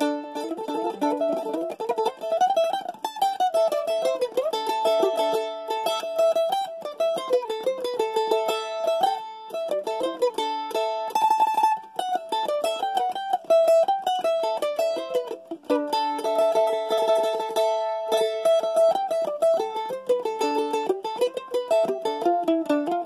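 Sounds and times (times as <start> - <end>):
mandolin melody: 0.0 - 23.0.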